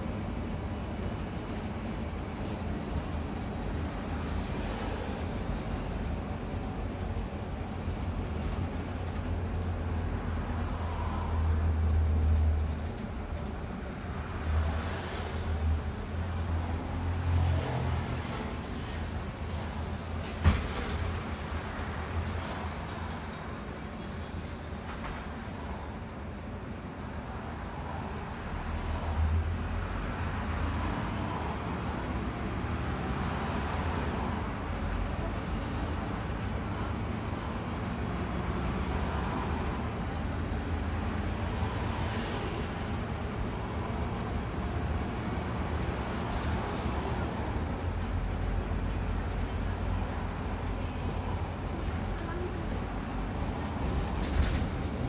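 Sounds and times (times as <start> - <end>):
bus engine rumble: 0.0 - 55.0
road noise: 0.0 - 55.0.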